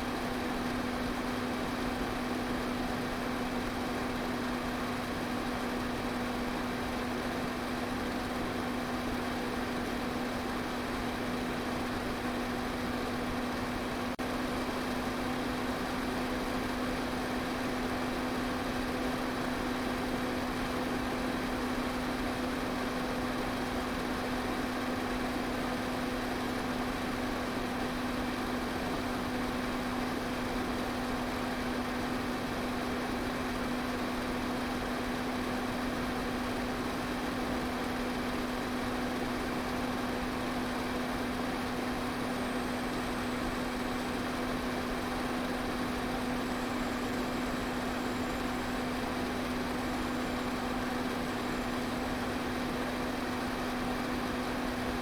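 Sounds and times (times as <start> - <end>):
fan motor hum: 0.0 - 55.0.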